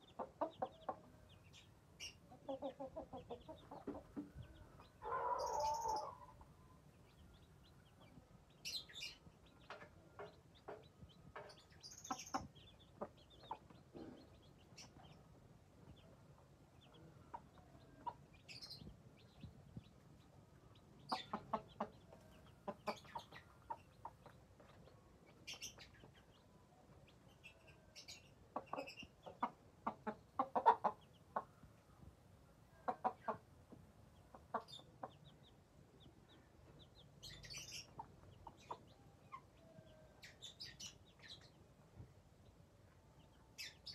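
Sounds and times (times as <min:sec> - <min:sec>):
chicks peeping: 0:00.0 - 0:43.9.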